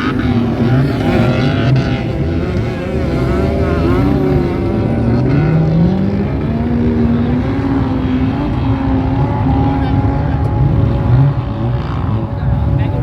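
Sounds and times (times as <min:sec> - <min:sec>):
off-road engines revving: 0:00.0 - 0:13.0.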